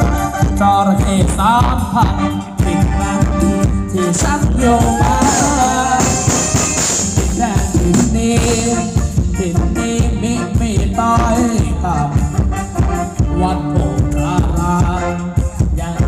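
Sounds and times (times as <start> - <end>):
live dance band music: 0.0 - 16.0.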